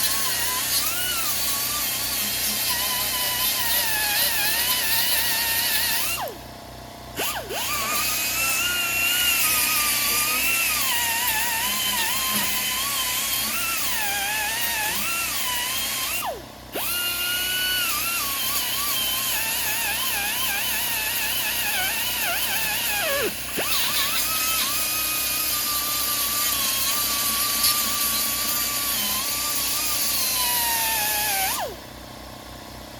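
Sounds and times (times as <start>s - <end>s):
power grinder grinding metal: 0.0s - 32.6s.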